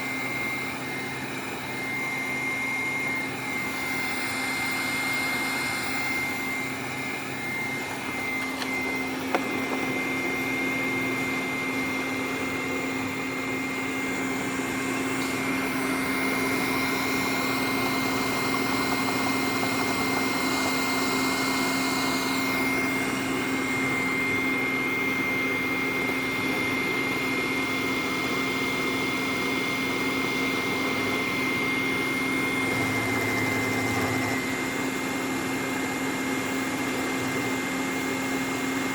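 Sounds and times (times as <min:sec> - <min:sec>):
robot vacuum motor whine: 0:00.0 - 0:38.9.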